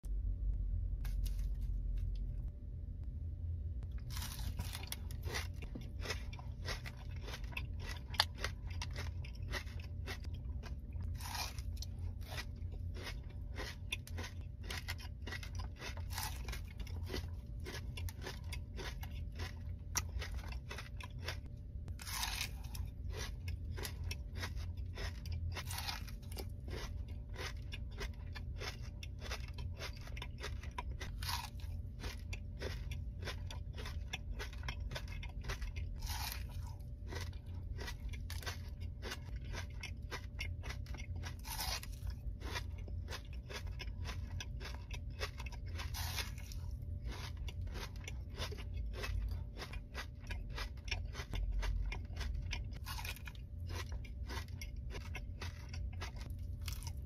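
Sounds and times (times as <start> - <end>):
chewing crunchy chocolate: 3.8 - 57.0.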